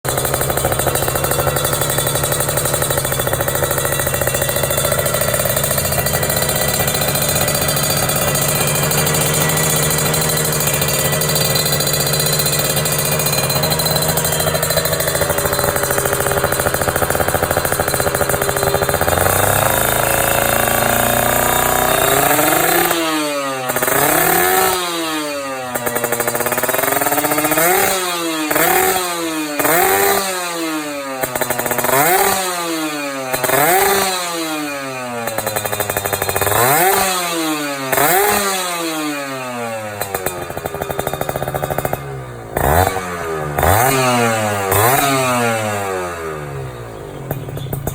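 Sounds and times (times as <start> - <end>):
two-stroke motorcycle engine revving: 0.0 - 47.9.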